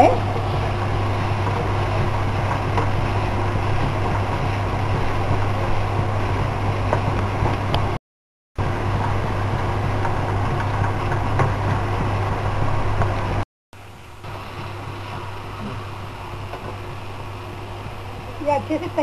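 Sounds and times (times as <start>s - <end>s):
steady low hum: 0.0s - 8.0s, 8.6s - 19.0s.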